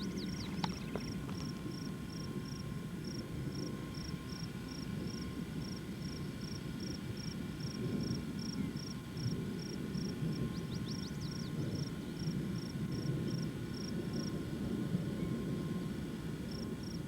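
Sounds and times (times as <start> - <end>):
cricket chirping: 0.0 - 14.3
low steady rumble: 0.0 - 17.0.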